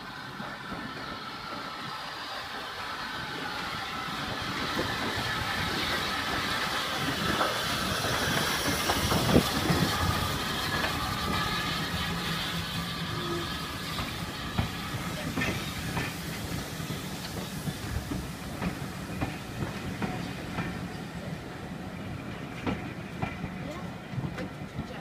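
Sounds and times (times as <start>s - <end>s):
steam hissing: 0.0s - 23.6s
steam locomotive passing: 0.0s - 25.0s.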